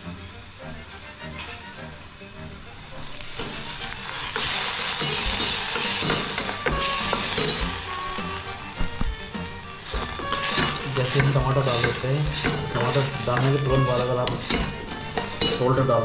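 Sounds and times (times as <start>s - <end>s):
food sizzling in oil: 0.0s - 16.0s
metal spatula scraping pot: 2.9s - 16.0s.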